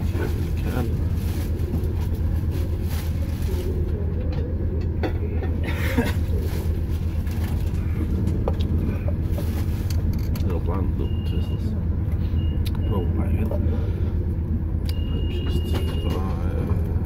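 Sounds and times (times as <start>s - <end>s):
train rumble from inside: 0.0s - 17.0s.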